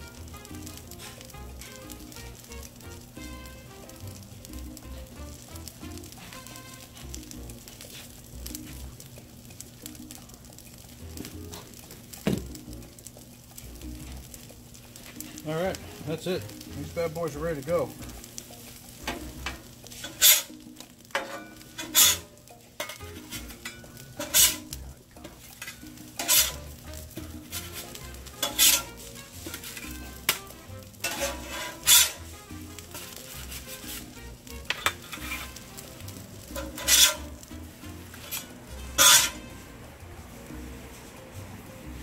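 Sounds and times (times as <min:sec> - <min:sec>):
metal spatula scraping griddle: 0:00.0 - 0:10.2, 0:13.5 - 0:39.8
light sizzle: 0:00.0 - 0:42.0.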